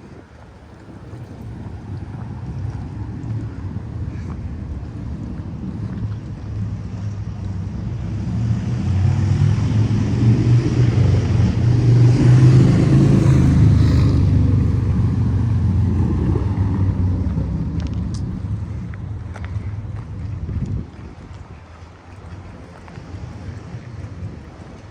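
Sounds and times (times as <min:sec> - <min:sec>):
road noise: 0:00.0 - 0:24.9
vehicle engine rumble: 0:00.0 - 0:24.9.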